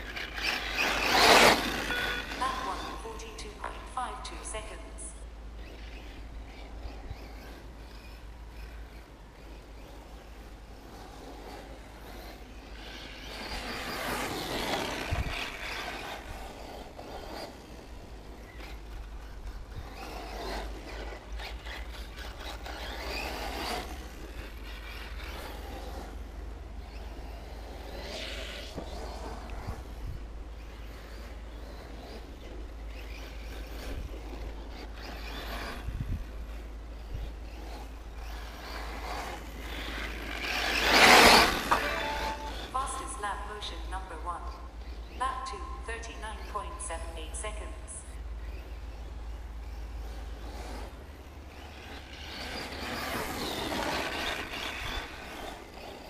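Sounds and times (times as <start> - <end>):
radio-controlled cars driving: 0.0 - 56.0.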